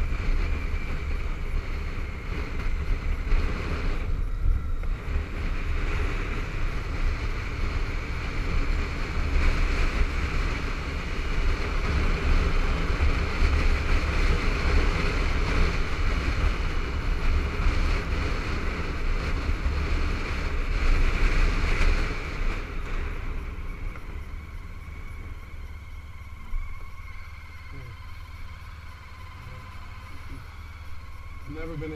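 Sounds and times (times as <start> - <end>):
motorcycle engine: 0.0 - 31.9
road noise: 0.0 - 31.9
wind buffeting camera: 0.0 - 31.9.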